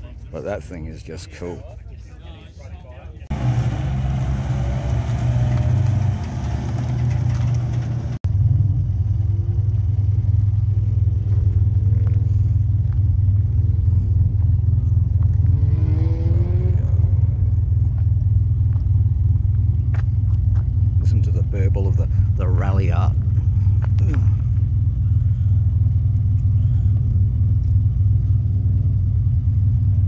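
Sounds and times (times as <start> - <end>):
car engine idling: 0.0 - 15.6, 17.0 - 30.0
another vehicle engine rumble: 0.0 - 30.0.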